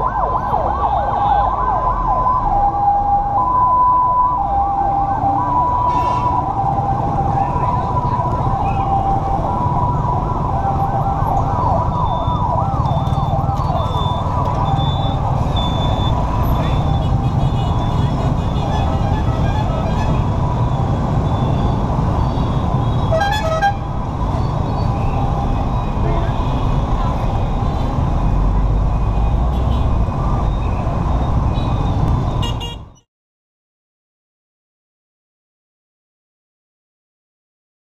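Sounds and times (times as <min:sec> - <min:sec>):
yelping sirens: 0:00.0 - 0:31.6
two-tone fire engine siren: 0:00.0 - 0:31.9
engines and traffic rumble: 0:00.0 - 0:33.1.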